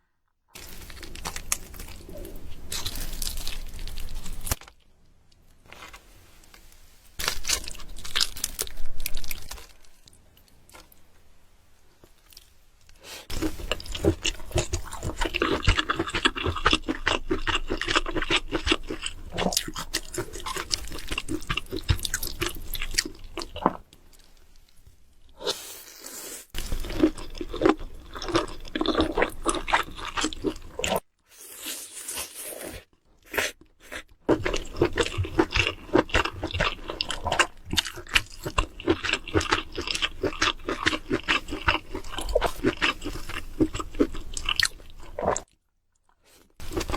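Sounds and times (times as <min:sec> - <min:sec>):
chewing and crunching food: 0:00.6 - 0:11.1, 0:12.0 - 0:25.4, 0:26.6 - 0:46.9.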